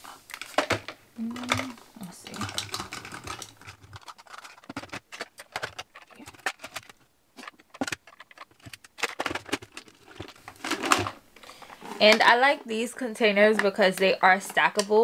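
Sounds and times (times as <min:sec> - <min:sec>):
plastic makeup items clattering: 0:00.3 - 0:12.6.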